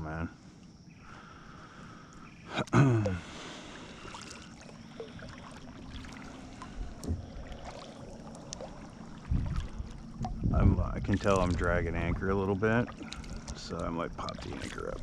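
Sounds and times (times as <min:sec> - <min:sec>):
water lapping: 0:00.4 - 0:15.0.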